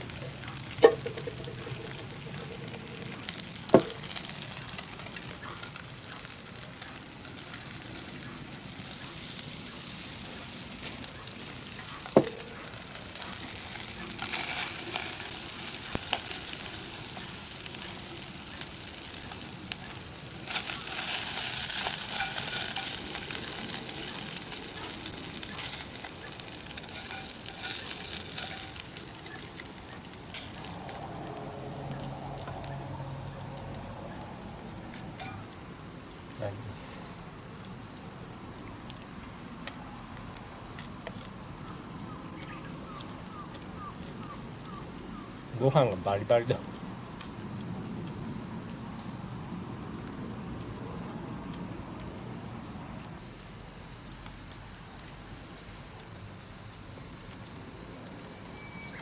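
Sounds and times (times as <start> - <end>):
food sizzling over campfire: 0.0 - 59.0
sharp cracks of fire: 0.0 - 59.0.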